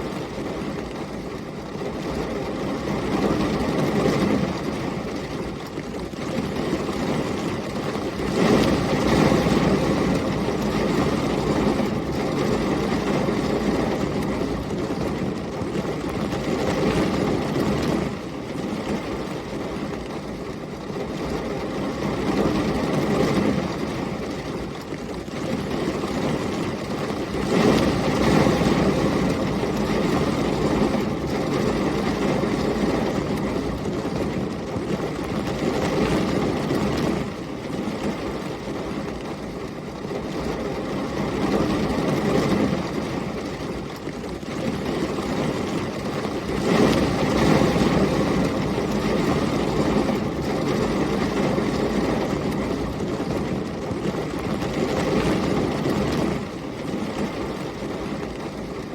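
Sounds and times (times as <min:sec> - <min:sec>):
heavy rain: 0:00.0 - 0:58.9
storm wind: 0:00.0 - 0:58.9.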